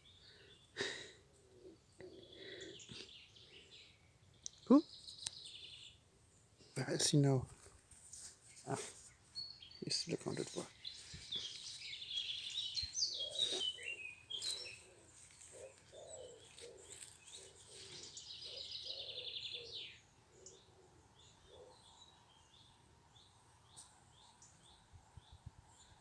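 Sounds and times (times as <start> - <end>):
songbirds singing: 0.0 - 7.5, 8.4 - 26.0.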